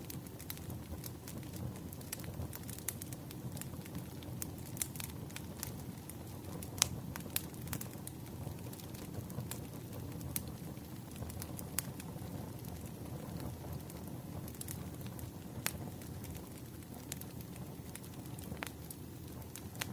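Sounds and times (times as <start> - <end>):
fire pops and snaps: 0.0 - 19.9
low rumble of burning logs: 0.0 - 19.9.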